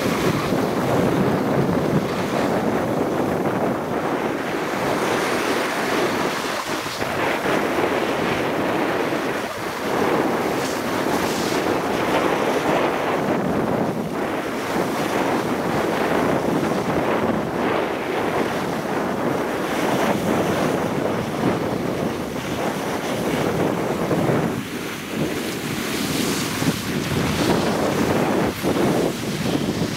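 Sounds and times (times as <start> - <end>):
wind rushing on microphone: 0.0 - 29.9.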